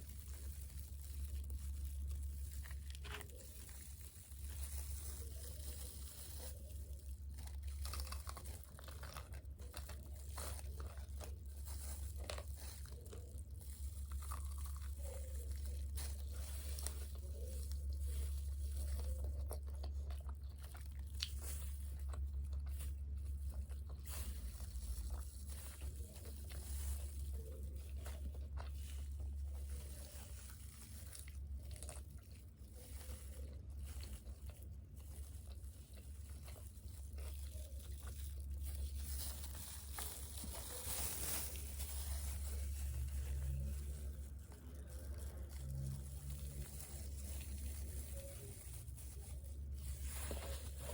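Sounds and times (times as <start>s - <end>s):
crunching and chewing food: 0.0s - 50.9s.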